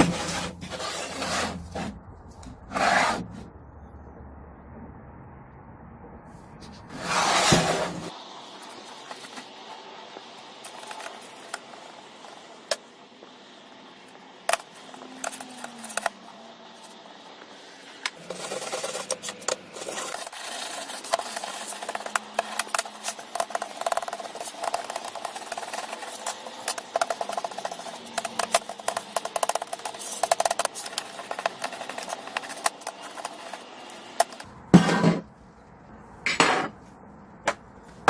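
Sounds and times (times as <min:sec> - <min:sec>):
scraping and rubbing: 0:00.0 - 0:03.5, 0:06.4 - 0:38.0.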